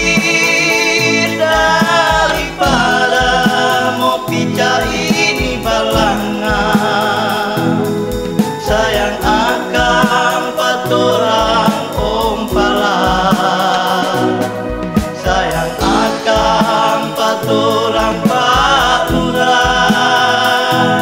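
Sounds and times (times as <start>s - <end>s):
pop song with sung vocals: 0.0s - 21.0s.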